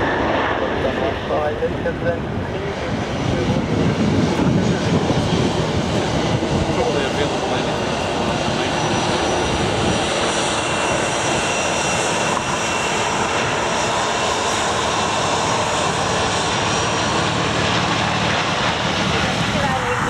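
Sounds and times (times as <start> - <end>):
high engine whine: 0.0 - 20.0
jet engines roaring: 0.0 - 20.0.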